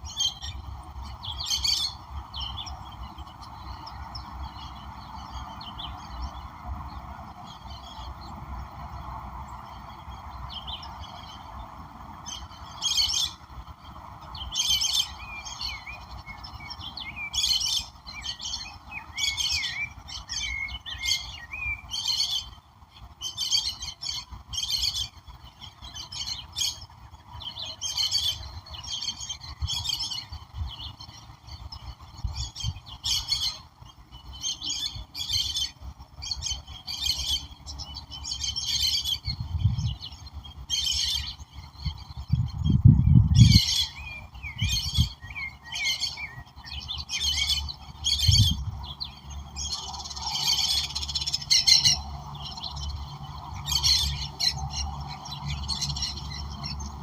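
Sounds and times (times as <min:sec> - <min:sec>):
steady background hiss: 0:00.0 - 0:57.0
wild birds chirping: 0:00.0 - 0:57.0.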